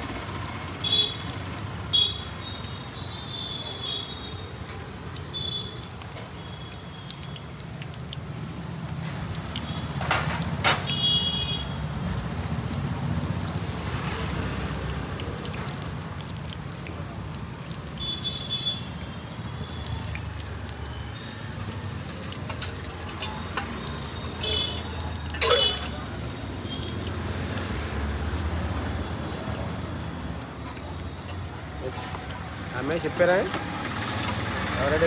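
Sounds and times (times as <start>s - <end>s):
deep-frying sizzle and bubbling: 0.0s - 35.0s.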